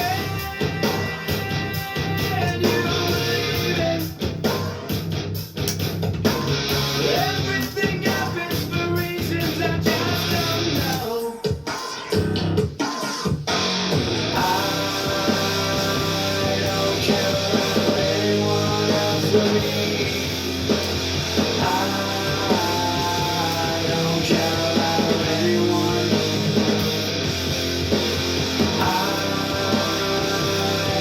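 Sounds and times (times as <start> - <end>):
person singing: 0.0 - 4.2, 7.0 - 13.3, 14.3 - 27.0, 28.5 - 31.0
distorted electric guitar: 0.0 - 31.0
drums: 0.0 - 31.0.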